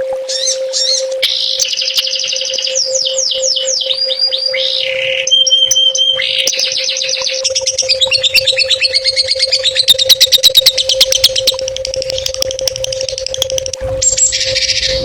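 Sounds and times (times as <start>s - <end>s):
songbird rattling trill: 0.3s - 15.0s.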